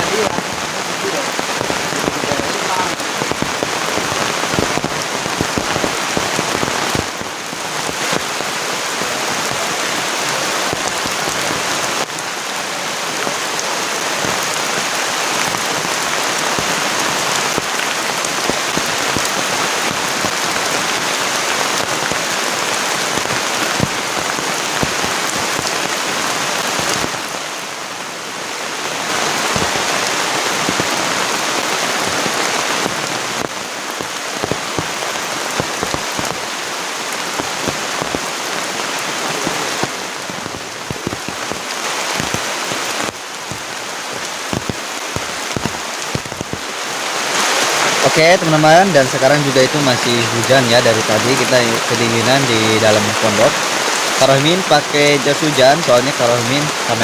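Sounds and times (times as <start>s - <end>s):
heavy rain pouring: 0.0s - 57.0s
sharp raindrop impacts: 0.0s - 57.0s.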